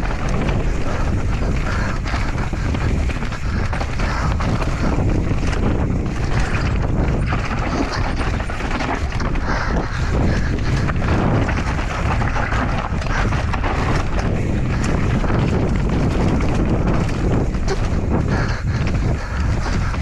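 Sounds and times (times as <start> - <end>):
bike rattling over bumps: 0.0 - 20.0
tyres rumbling on dirt: 0.0 - 20.0
wind buffeting microphone: 0.0 - 20.0.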